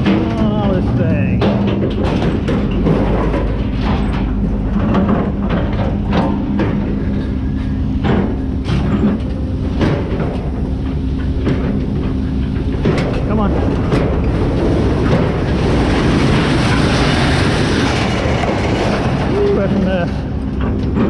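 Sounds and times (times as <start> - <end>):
rattles and knocks: 0.0 - 21.0
road rumble: 0.0 - 21.0
vehicle engine hum: 0.0 - 21.0.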